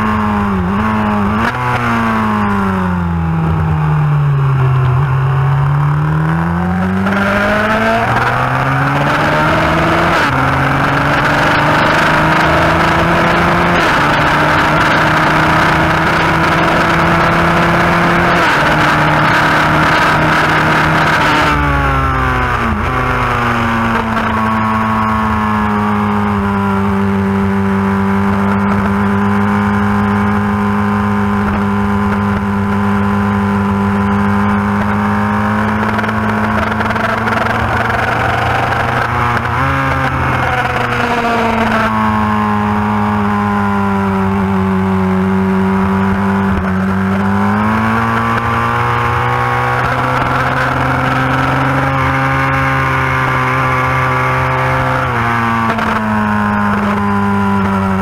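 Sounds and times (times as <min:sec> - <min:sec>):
motorcycle engine at racing speed: 0:00.0 - 0:58.0.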